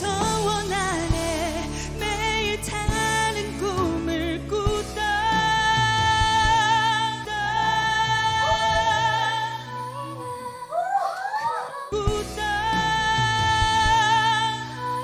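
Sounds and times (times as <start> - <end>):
woman singing wordless vocal: 0.0 - 15.0.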